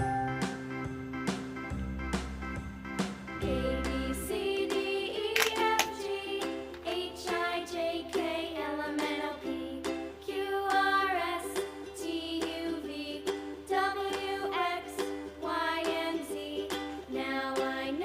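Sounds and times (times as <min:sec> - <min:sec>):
children's background music: 0:00.0 - 0:18.0
plucked ukulele notes: 0:03.4 - 0:18.0.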